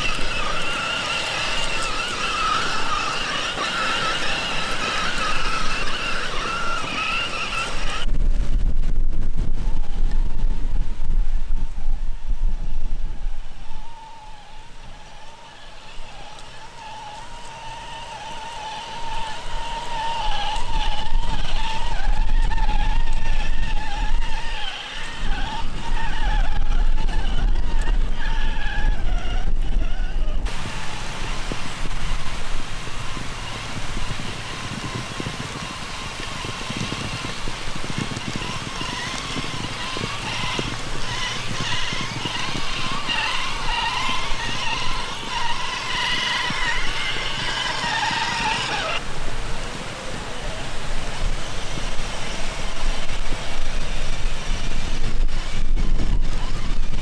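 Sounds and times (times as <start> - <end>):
electric motor whining: 0.0 - 8.2, 11.4 - 57.0.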